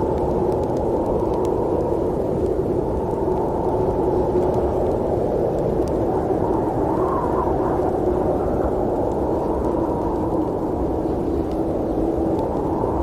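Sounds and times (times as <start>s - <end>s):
blizzard wind rushing: 0.0s - 13.0s.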